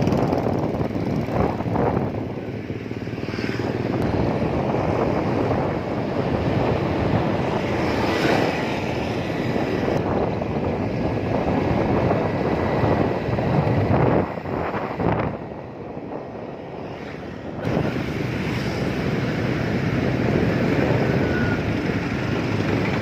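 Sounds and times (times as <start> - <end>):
wind blowing over microphone: 0.0 - 23.0.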